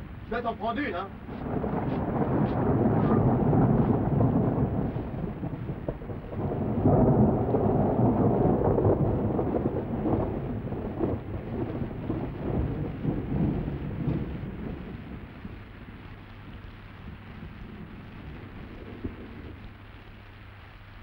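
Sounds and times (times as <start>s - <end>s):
rolling thunder: 0.0s - 20.3s
rain hissing: 0.0s - 21.0s.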